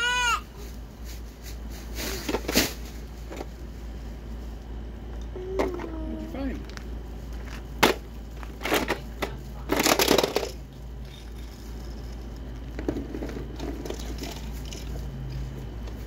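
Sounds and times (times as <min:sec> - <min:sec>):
items crinkling and rustling: 0:00.5 - 0:16.0.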